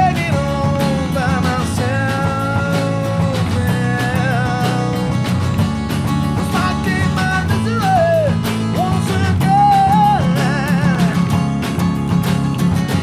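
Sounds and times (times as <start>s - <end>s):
acoustic guitar: 0.0s - 13.0s
drum kit with cymbals: 0.0s - 13.0s
electric bass guitar: 0.0s - 13.0s.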